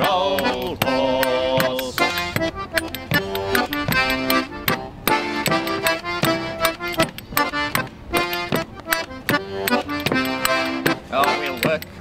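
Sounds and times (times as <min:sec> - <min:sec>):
concertina playing chords: 0:00.0 - 0:11.8
clicking hand percussion: 0:00.0 - 0:12.0.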